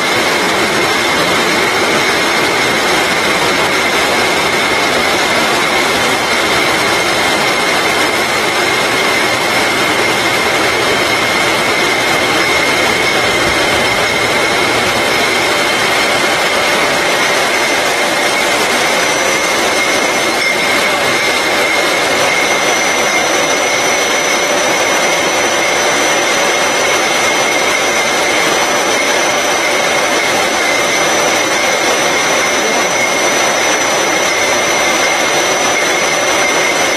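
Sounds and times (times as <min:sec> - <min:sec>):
high mechanical whine: 0:00.0 - 0:36.9
labeling machine running: 0:00.0 - 0:36.9.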